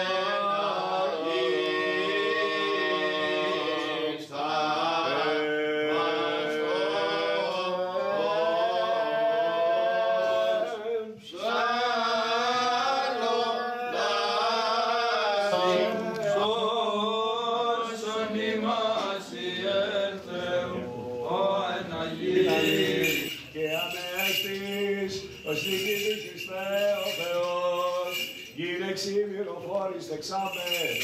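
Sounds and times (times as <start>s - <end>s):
men chanting a hymn: 0.0s - 31.0s.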